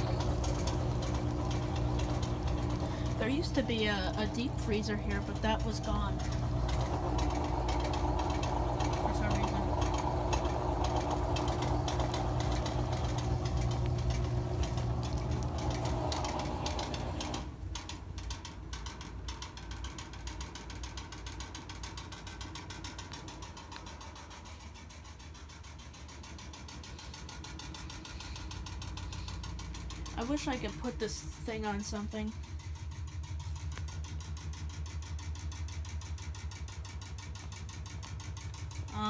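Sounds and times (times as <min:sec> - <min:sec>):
washing machine humming: 0:00.0 - 0:39.0.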